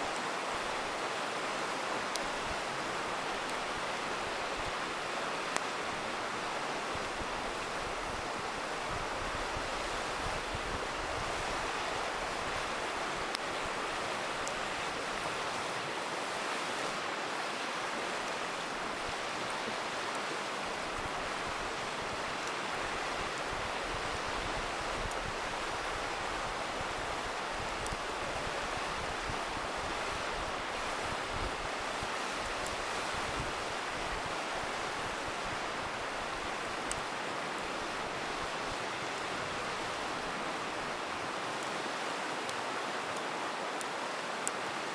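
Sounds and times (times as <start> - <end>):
campfire crackling: 0.0 - 44.9
river rushing: 0.0 - 44.9.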